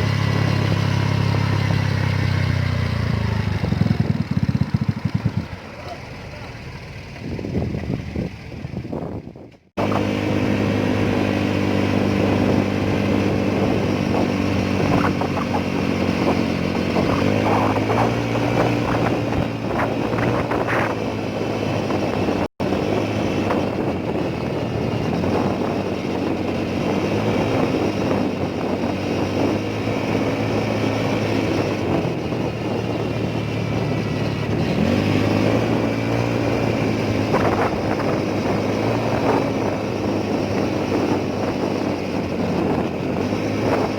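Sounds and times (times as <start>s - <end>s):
motorcycle engine running: 0.0s - 43.9s
road and wind noise: 0.0s - 43.9s.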